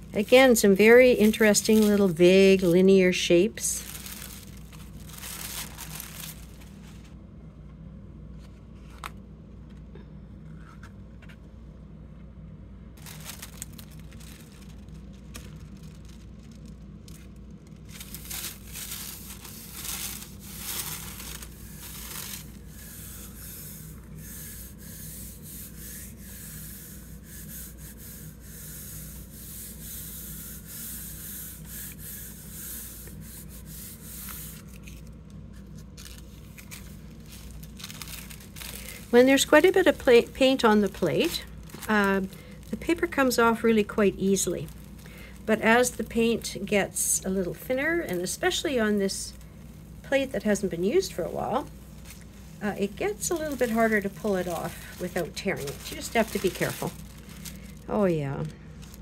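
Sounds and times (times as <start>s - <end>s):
tissue paper rustling and rubbing: 0.0s - 7.2s, 13.0s - 59.0s
low steady hum: 0.0s - 59.0s.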